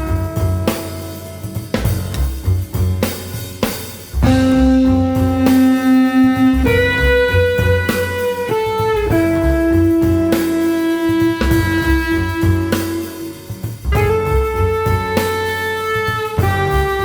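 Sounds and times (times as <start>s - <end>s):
lead instrument melody: 0.0s - 3.3s, 4.2s - 17.0s
bass: 0.0s - 17.0s
drum kit: 0.0s - 17.0s.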